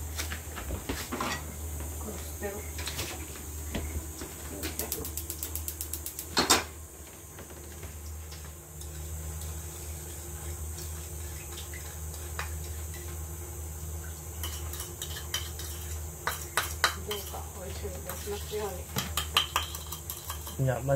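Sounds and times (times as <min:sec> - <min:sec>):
gas burner hum: 0:00.0 - 0:20.9.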